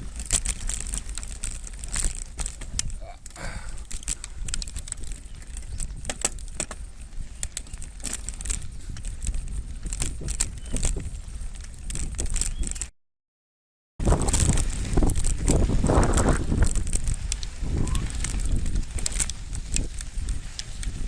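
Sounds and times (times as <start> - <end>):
bike rattling clicks and knocks: 0.0 - 12.9, 14.0 - 21.0
wind on microphone: 2.6 - 12.9, 14.0 - 21.0.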